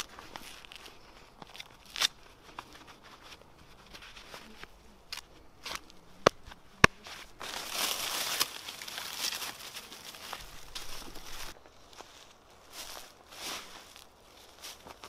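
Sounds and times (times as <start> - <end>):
leaves and twigs crackling: 0.0 - 15.0.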